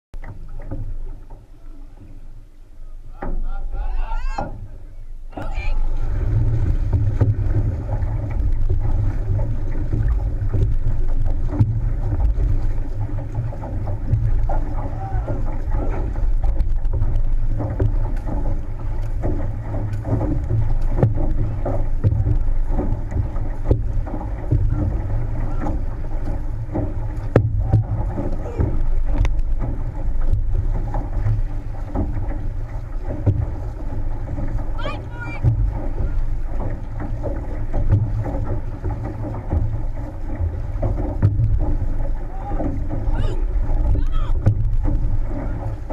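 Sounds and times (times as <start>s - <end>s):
water rushing along a hull: 0.2s - 45.9s
paddle stroke knocks: 5.3s - 45.9s.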